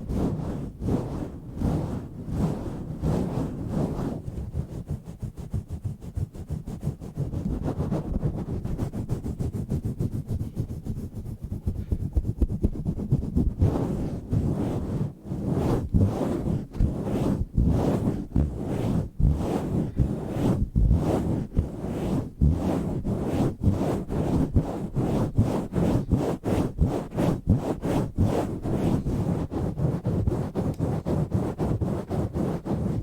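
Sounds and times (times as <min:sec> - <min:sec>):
hand rubbing microphone cover: 0:00.0 - 0:33.0.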